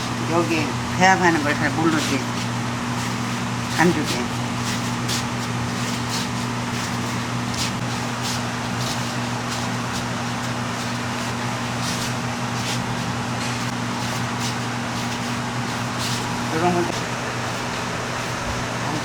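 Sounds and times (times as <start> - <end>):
electric fan humming: 0.0 - 19.0.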